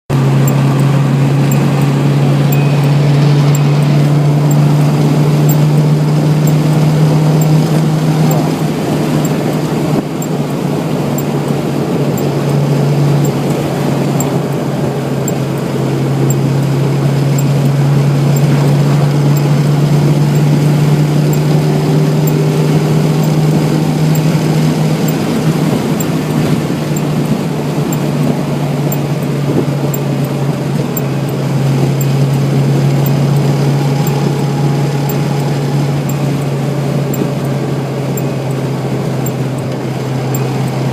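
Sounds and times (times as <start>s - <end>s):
car engine drone: 0.0s - 40.9s
speed-warning chime: 0.2s - 38.6s.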